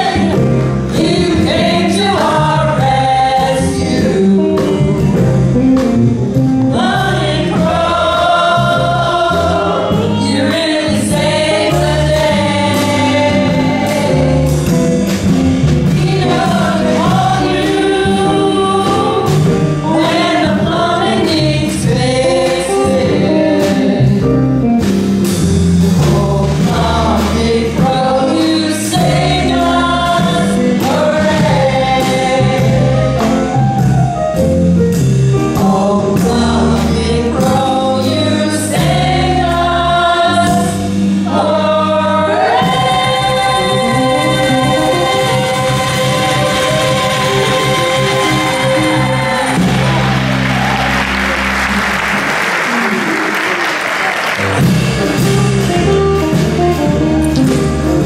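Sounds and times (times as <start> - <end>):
group of voices singing: 0.0 - 5.4, 6.7 - 24.3, 25.8 - 33.5, 35.5 - 52.1
instrumental accompaniment with beat: 0.0 - 58.0.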